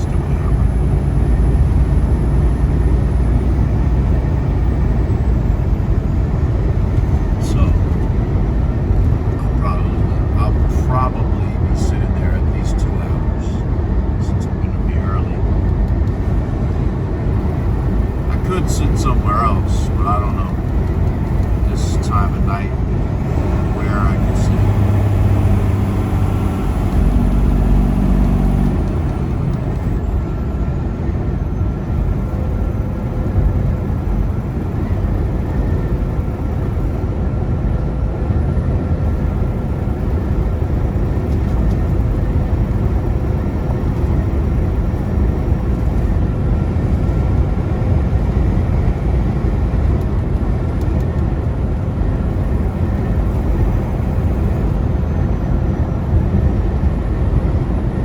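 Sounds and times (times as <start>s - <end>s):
road noise: 0.0s - 58.0s
truck engine drone: 0.0s - 58.0s.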